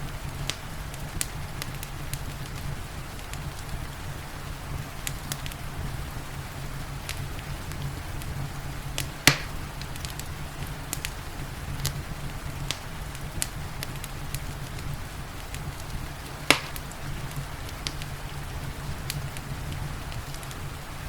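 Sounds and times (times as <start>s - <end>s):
rain hissing: 0.0s - 21.0s
wood fire crackling: 0.0s - 21.0s.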